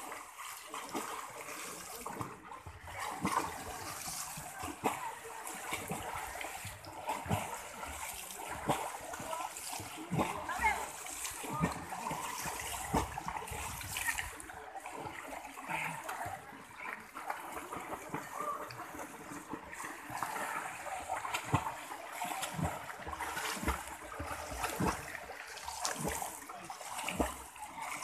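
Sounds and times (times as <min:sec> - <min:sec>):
swimmer splashing: 0:00.0 - 0:28.0
wash of moving water: 0:00.0 - 0:28.0.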